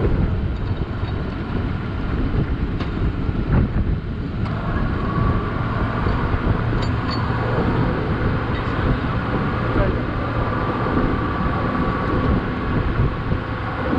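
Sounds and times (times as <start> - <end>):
vehicle engine running: 0.0 - 13.9
wind buffeting microphone: 0.0 - 13.9.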